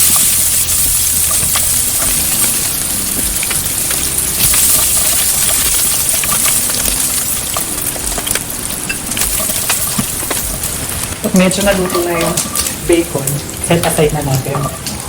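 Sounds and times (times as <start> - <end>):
bacon sizzling in a pan: 0.0 - 15.0
fat crackling and popping: 0.0 - 15.0.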